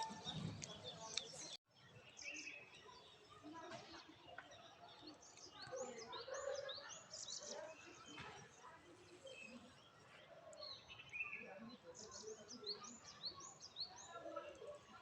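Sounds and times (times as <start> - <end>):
birds chirping: 0.0 - 14.8
low background murmur: 0.0 - 15.0.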